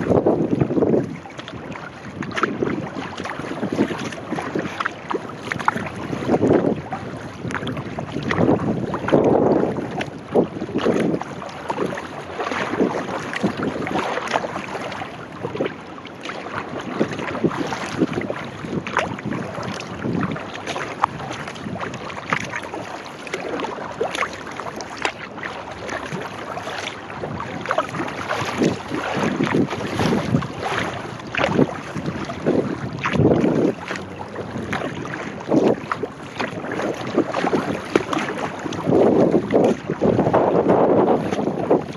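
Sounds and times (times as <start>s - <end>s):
paddle strokes splashing: 0.0s - 41.9s
water lapping against hull: 0.0s - 41.9s
wind buffeting microphone: 0.0s - 41.9s.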